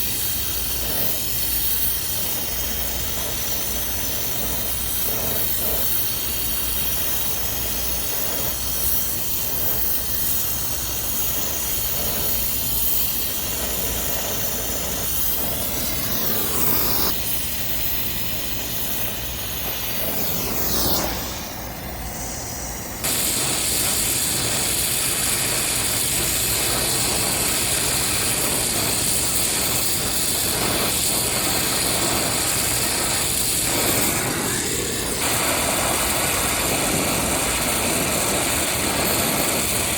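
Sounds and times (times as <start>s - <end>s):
brazing torch hissing: 0.0s - 39.9s.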